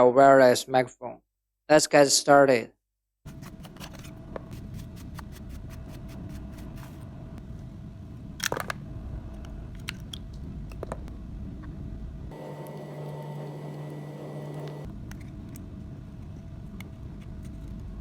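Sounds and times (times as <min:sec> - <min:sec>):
steady low hum: 0:03.3 - 0:18.0.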